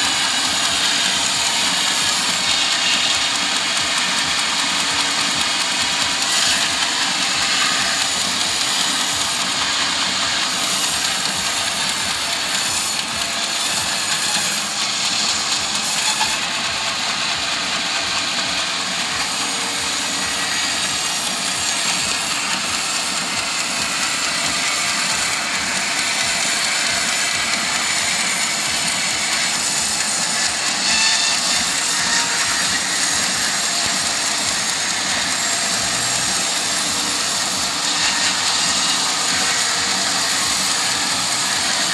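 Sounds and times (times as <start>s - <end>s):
sawmill saw cutting wood: 0.0s - 41.9s.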